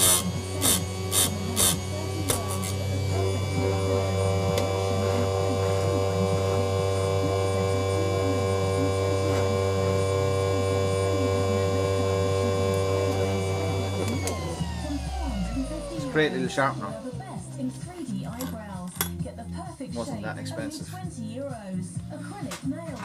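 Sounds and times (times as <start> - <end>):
grinder motor humming: 0.0 - 18.5.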